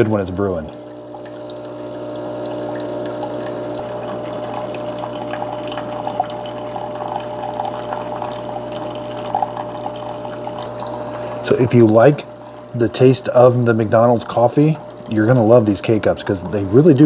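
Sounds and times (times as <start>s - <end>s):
coffee pouring into a mug: 0.0s - 16.7s
coffee maker pump humming: 0.0s - 17.0s.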